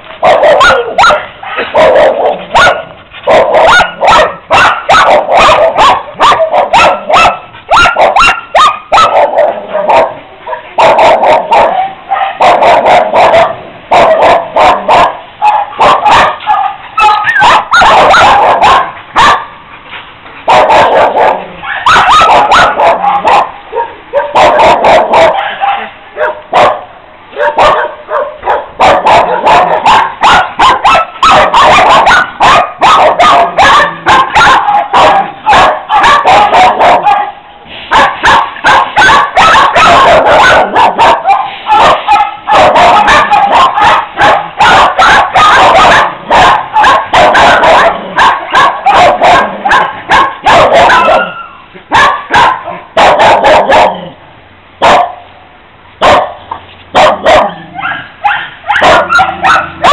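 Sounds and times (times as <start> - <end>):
many dogs barking: 0.0 - 19.6, 20.4 - 54.2, 54.8 - 55.3, 56.0 - 59.9.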